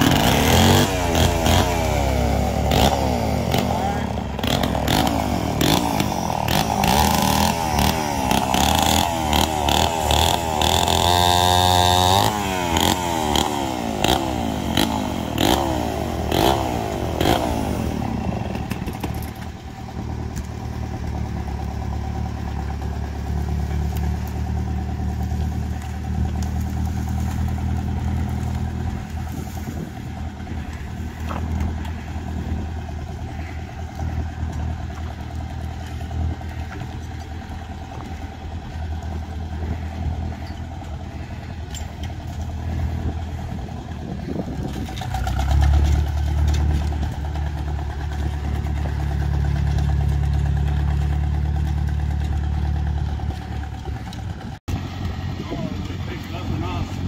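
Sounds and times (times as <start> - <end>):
chainsaw revving: 0.0 - 19.4, 20.4 - 57.0
tractor engine running: 0.0 - 57.0.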